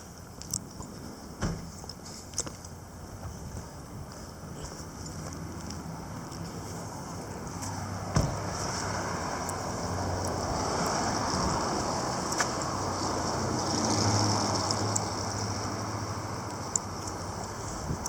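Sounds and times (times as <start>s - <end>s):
traffic road noise: 0.0s - 18.0s.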